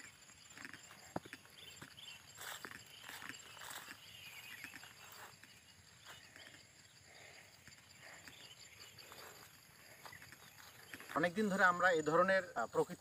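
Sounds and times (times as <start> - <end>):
footsteps on grass: 0.0 - 6.6, 8.0 - 11.9
birds chirping: 0.0 - 13.0
high insect hum: 0.0 - 13.0.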